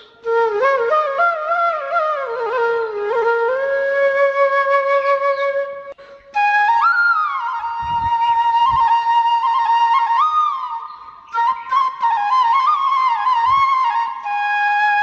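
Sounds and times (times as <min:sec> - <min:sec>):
slow flute melody: 0:00.0 - 0:15.0.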